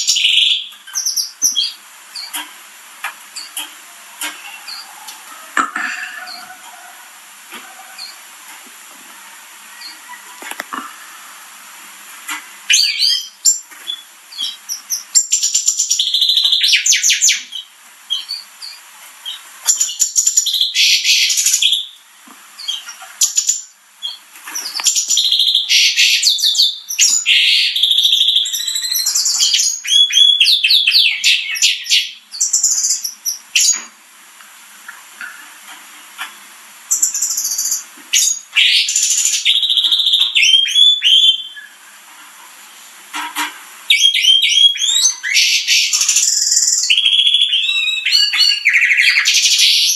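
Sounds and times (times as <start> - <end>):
canaries chirping and trilling: 0.0 - 8.6, 9.3 - 11.6, 12.2 - 34.0, 35.2 - 41.8, 43.1 - 49.9.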